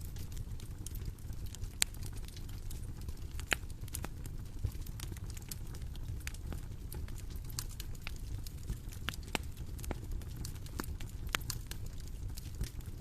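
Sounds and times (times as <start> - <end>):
bonfire crackling: 0.0 - 13.0.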